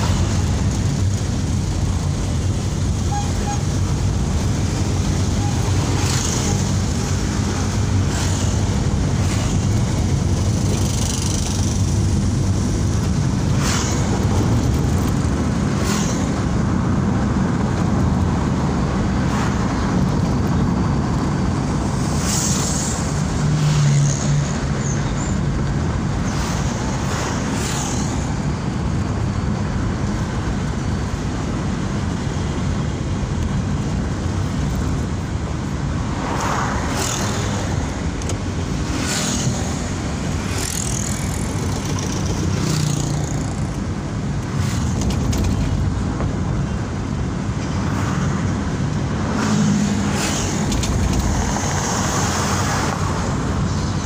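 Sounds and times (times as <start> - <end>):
car engine and road noise: 0.0 - 54.0
passing traffic: 0.0 - 54.0.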